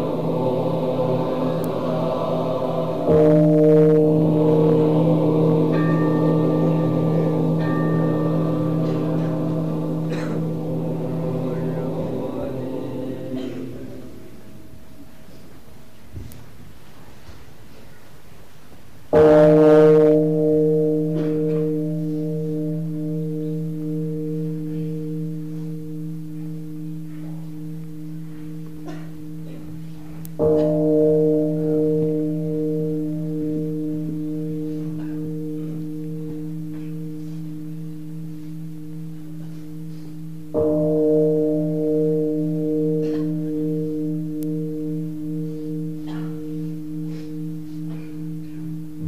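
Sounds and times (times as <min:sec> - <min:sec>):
bowl bell ringing: 0:02.9 - 0:12.6, 0:19.2 - 0:49.0.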